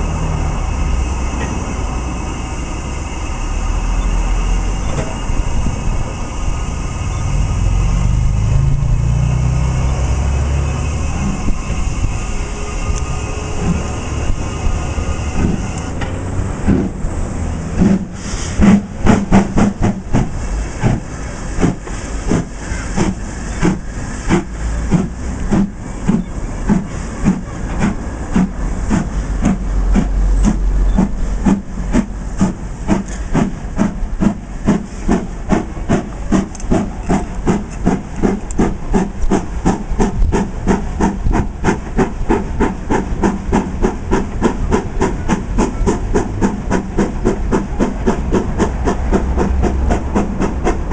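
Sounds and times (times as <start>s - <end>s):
train rhythmic clatter: 0.0s - 50.9s.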